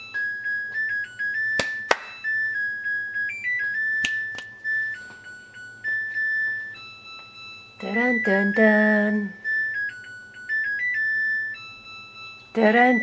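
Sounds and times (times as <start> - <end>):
electronic beeper melody: 0.0 - 13.0.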